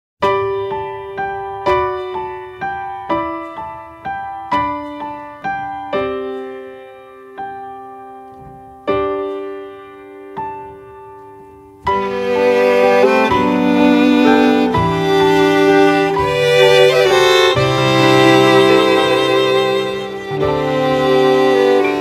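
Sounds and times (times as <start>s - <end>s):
fuller musical arrangement: 0.2s - 22.0s
solo piano slow melody: 0.2s - 22.0s.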